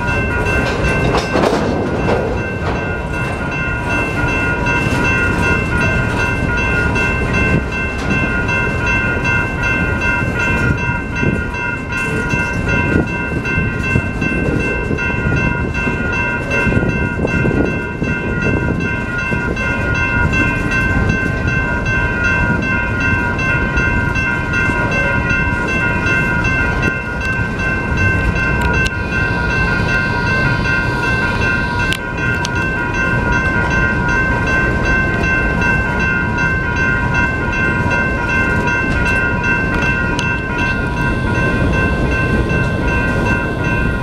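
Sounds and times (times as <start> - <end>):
crossing warning bell ringing: 0.0 - 44.0
freight train rumbling: 0.0 - 44.0.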